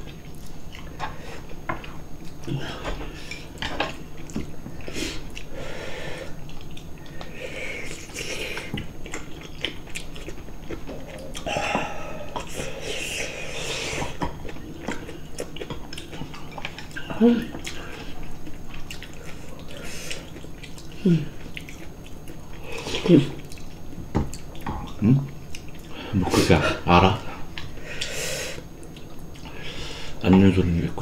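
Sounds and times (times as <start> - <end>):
people chewing: 0.0 - 30.6.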